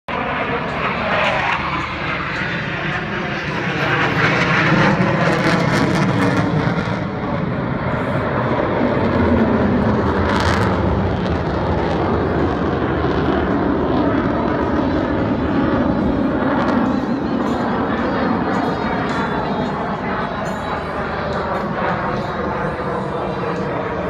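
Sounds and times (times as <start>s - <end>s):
jet engine rumble: 0.1s - 24.0s.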